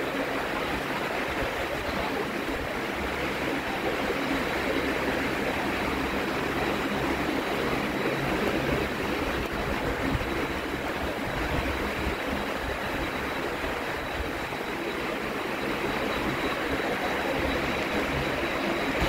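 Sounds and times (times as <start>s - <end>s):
faint high whine: 0.0s - 19.0s
rumbling station background noise: 0.0s - 19.0s.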